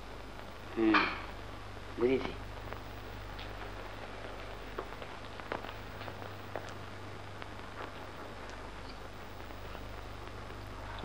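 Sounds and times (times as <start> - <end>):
film clicks and crackles: 0.0 - 11.0
low hum and hiss: 0.0 - 11.0.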